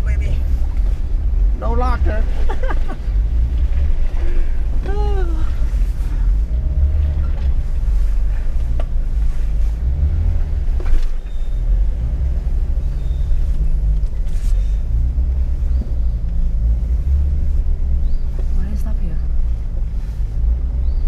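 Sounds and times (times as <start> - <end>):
engine running low: 0.0 - 21.0.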